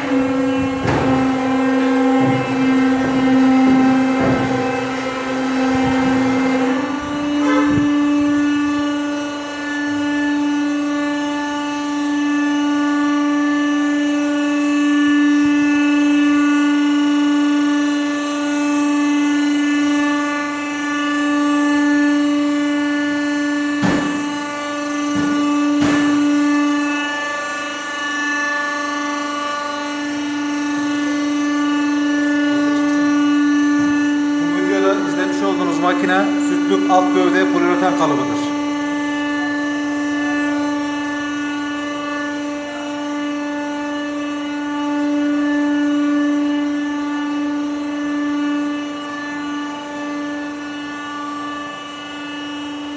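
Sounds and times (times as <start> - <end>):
high-pitched motor hum: 0.0 - 52.9.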